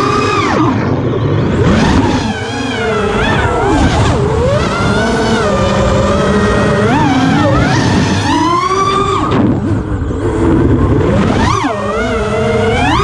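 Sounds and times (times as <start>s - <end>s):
drone propellers whining: 0.0s - 13.0s
wind rumble: 0.0s - 13.0s.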